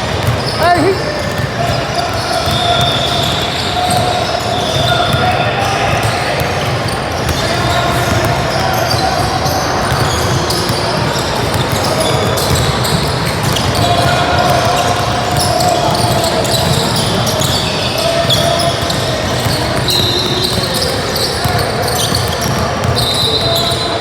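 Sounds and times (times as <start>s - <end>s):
basketball bouncing on gym floor: 0.0s - 23.7s
voices in large hall: 0.0s - 24.0s.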